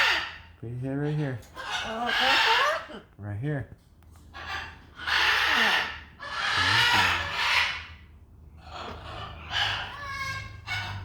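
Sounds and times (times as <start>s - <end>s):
parrot raspy calls: 0.0s - 3.2s, 4.2s - 11.0s.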